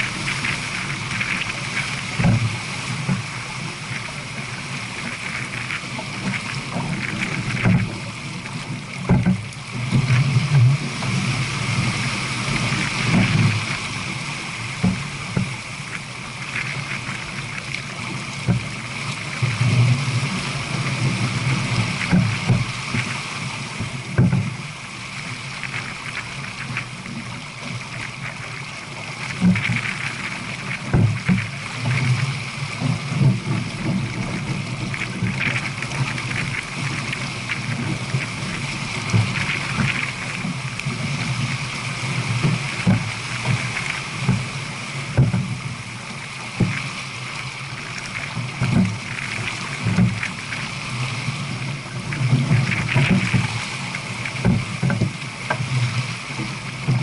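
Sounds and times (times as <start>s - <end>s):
water rushing along a hull: 0.0s - 57.0s.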